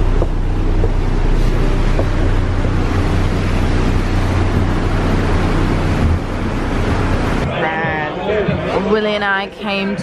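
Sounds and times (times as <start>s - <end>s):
ferry engine rumbling: 0.0s - 10.0s.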